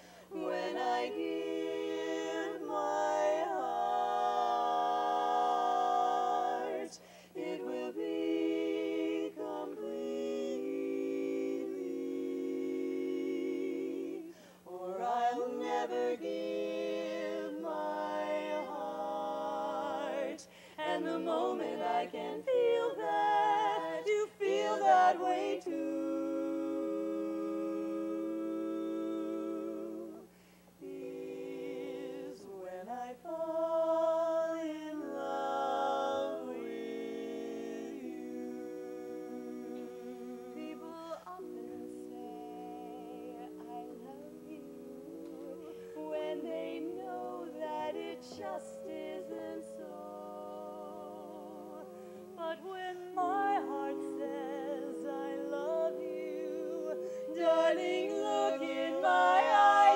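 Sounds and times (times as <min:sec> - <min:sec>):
women singing a cappella harmony: 0:00.0 - 0:59.9.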